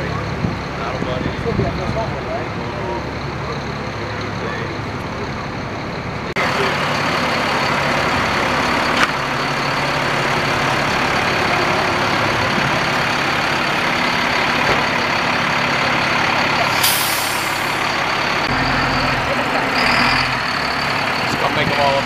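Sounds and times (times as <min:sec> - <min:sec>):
diesel trucks idling: 0:00.0 - 0:22.0.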